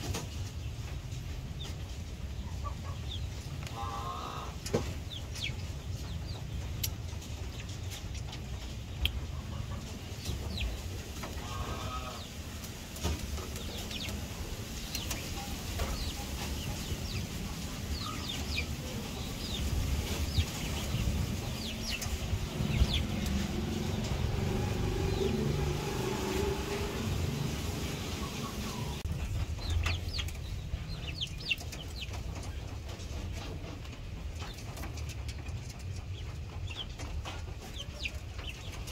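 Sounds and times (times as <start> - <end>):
chicken clucking: 0.0 - 38.9
steady low rumble: 0.0 - 38.9.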